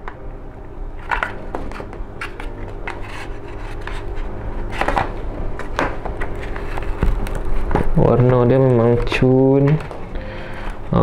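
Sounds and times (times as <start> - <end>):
plastic rubbing and scraping: 1.0 - 9.9.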